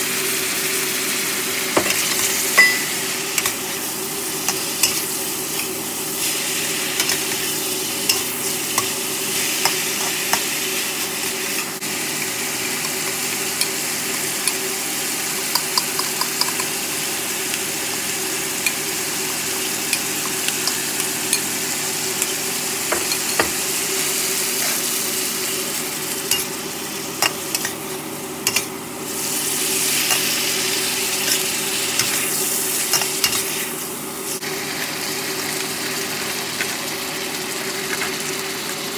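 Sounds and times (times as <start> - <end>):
food sizzling in a wok: 0.0 - 38.9.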